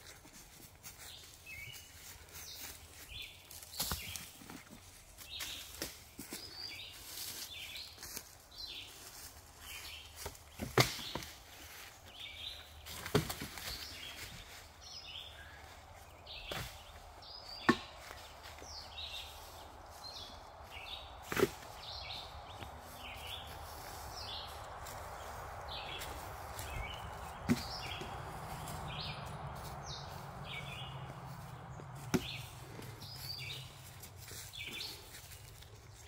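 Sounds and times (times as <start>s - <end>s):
footsteps through forest litter: 0.0s - 36.0s
birds singing: 0.6s - 36.0s.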